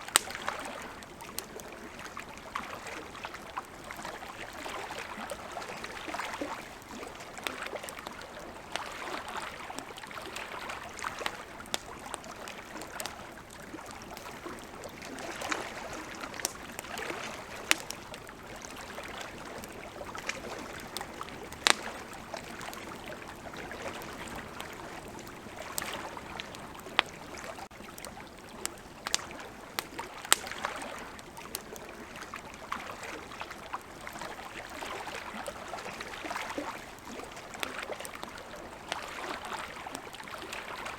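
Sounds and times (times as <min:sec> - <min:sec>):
campfire crackling and popping: 0:00.0 - 0:40.9
river water flowing: 0:00.0 - 0:40.9.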